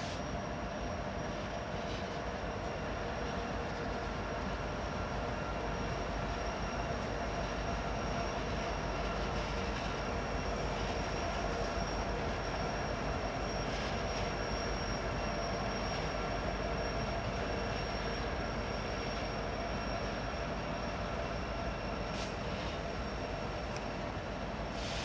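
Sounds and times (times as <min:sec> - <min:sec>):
high-pitched whine: 0:00.0 - 0:25.0.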